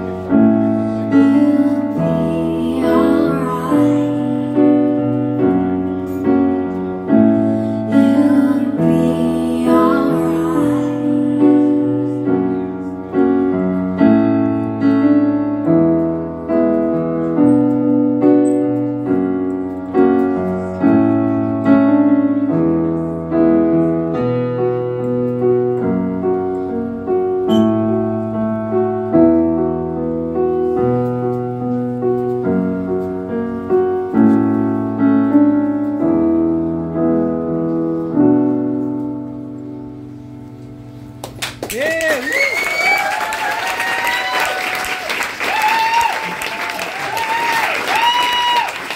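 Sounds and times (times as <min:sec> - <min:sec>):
piano-toned keyboard chords: 0:00.0 - 0:48.9.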